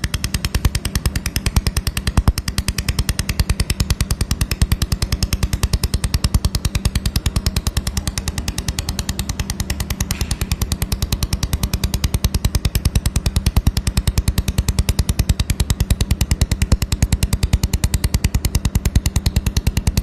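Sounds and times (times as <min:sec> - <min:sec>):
laser welder rapid ticking: 0:00.0 - 0:20.0
low machine hum: 0:00.0 - 0:20.0.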